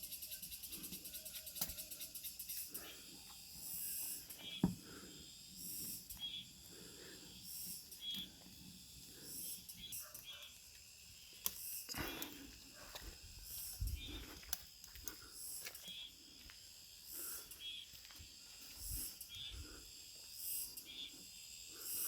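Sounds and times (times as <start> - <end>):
wood fire hissing and crackling: 0.0 - 22.0.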